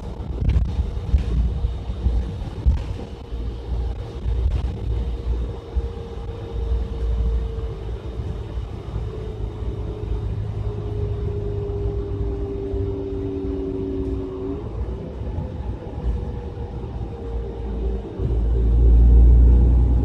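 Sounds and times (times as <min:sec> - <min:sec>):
bus engine and road rumble: 0:00.0 - 0:20.0
drivetrain whine: 0:00.0 - 0:20.0.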